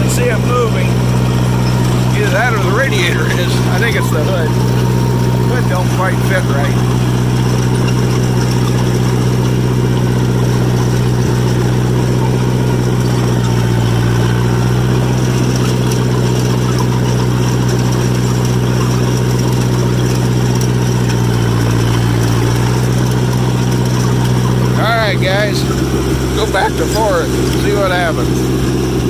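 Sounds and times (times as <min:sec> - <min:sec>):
crawler tractor engine running: 0:00.0 - 0:29.0.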